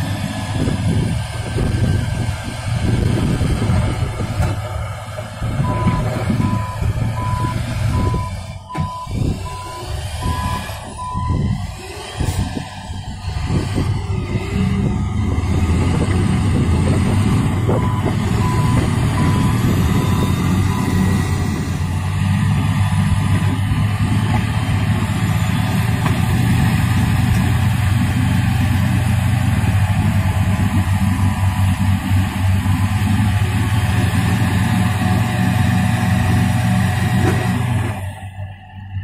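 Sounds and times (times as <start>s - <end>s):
heavy vehicle engine running: 0.0s - 39.0s.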